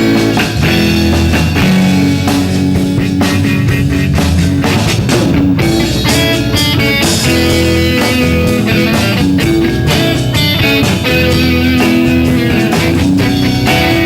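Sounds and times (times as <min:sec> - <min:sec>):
electric guitar: 0:00.0 - 0:14.0
live rock band playing: 0:00.0 - 0:14.0.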